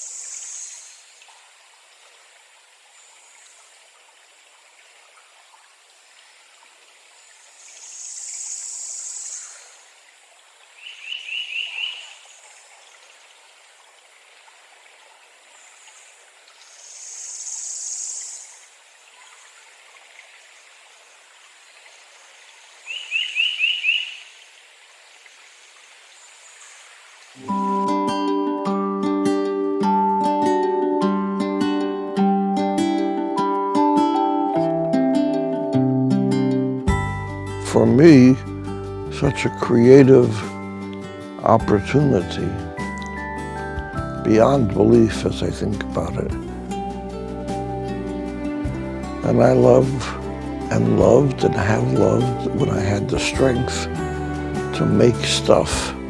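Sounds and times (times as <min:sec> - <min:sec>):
faint high hiss: 0:00.0 - 0:28.1, 0:36.9 - 0:56.0.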